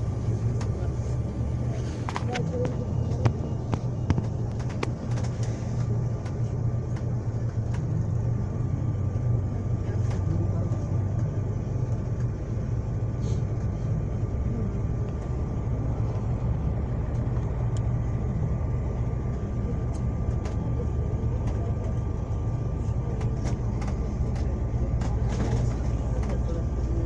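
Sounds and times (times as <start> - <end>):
engine and road rumble: 0.0 - 27.0
light rattles and clicks: 2.0 - 8.2, 9.8 - 27.0.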